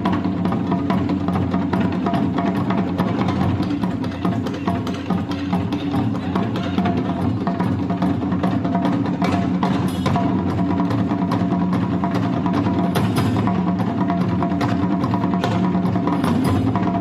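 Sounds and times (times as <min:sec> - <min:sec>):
drums and percussion: 0:00.0 - 0:17.0.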